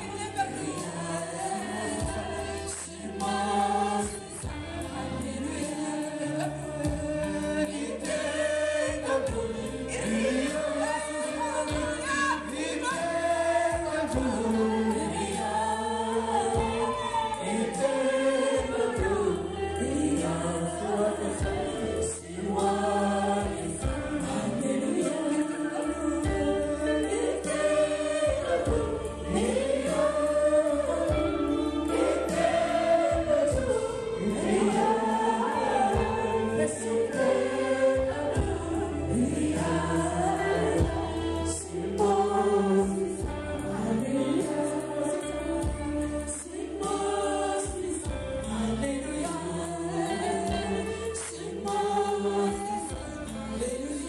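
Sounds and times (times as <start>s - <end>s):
congregation singing worship song: 0.0s - 54.0s.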